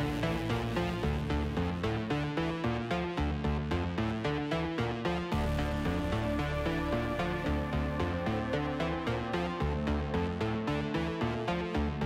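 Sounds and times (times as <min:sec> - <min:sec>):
electronic music with pulsing beat: 0:00.0 - 0:12.0.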